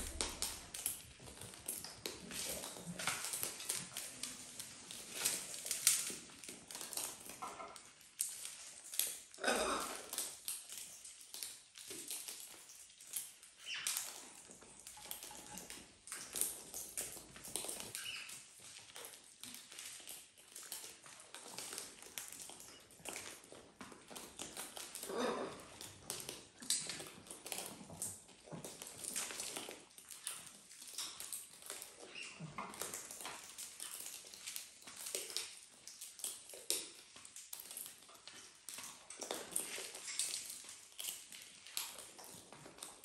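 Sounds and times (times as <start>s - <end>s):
parrots cracking seeds: 0.0s - 43.0s.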